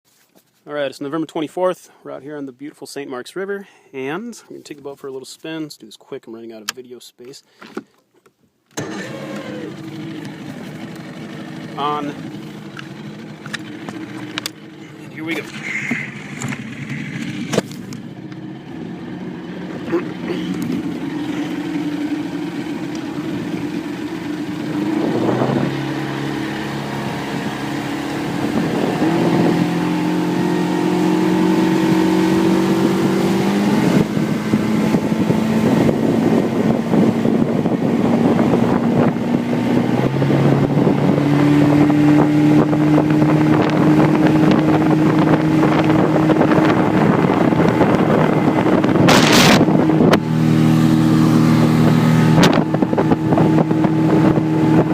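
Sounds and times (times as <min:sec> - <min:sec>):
outboard motor running: 0:08.8 - 0:54.9.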